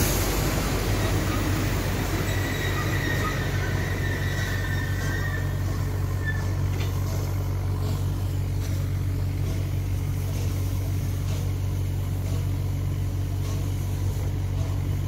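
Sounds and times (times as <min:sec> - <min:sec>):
railway carriages rolling: 0:00.0 - 0:15.0.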